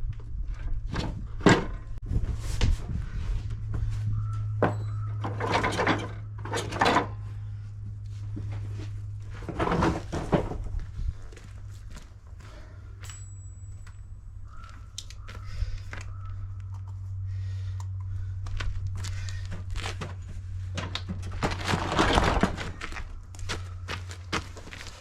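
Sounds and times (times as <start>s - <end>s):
steady low hum: 0.0s - 25.0s
rustling and scraping: 0.1s - 17.2s, 18.2s - 25.0s.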